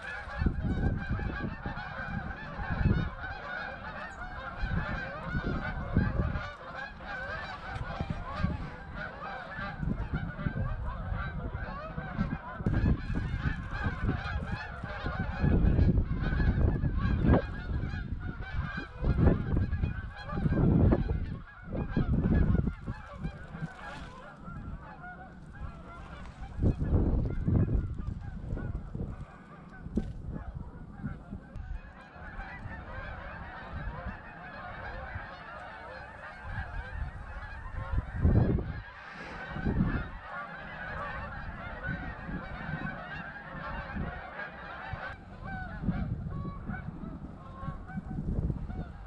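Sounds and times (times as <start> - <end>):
geese honking: 0.0 - 49.0.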